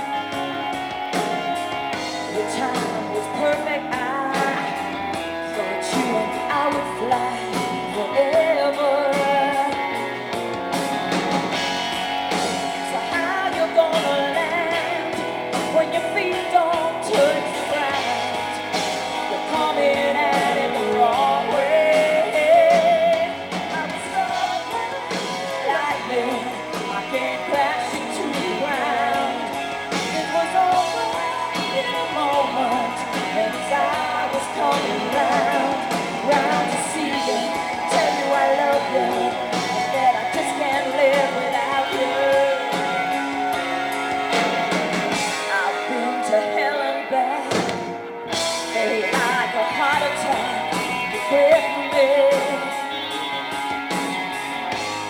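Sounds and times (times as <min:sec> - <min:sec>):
person singing: 0:00.0 - 0:10.4, 0:12.3 - 0:55.0
electric guitars: 0:00.0 - 0:55.0.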